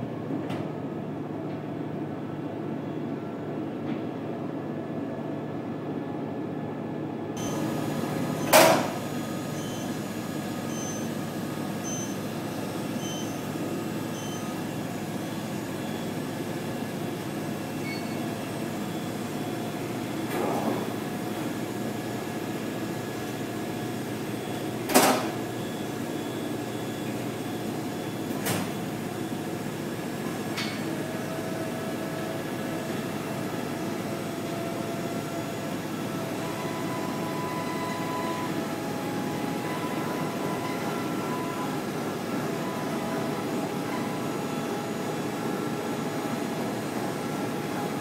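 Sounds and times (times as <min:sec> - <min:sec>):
machine mechanical hum: 0:00.0 - 0:48.0.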